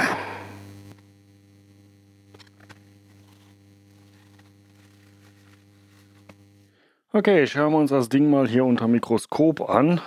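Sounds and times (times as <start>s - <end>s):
faint electrical mains hum: 0.0s - 10.0s.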